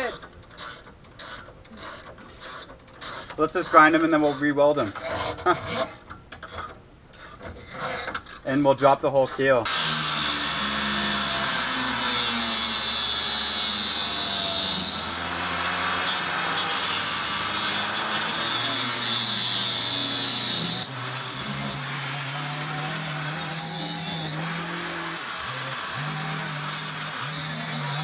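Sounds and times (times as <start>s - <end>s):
angle grinder grinding steel: 0.0s - 28.0s.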